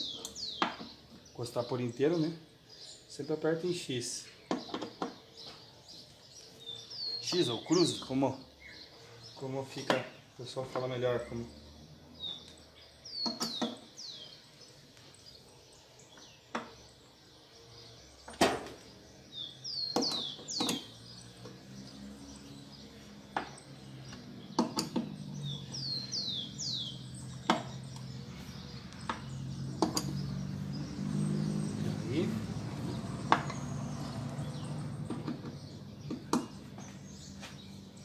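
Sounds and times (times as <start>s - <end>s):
small bird chirping: 0.0s - 38.0s.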